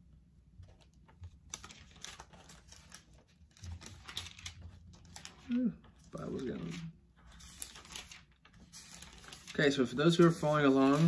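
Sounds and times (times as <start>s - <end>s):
paper pages rustling and turning: 0.5s - 11.0s.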